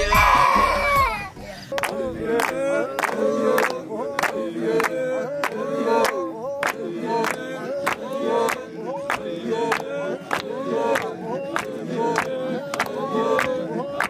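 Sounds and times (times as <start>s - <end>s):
group of voices singing: 0.0s - 14.0s
sharp clap-like beat: 1.7s - 14.0s.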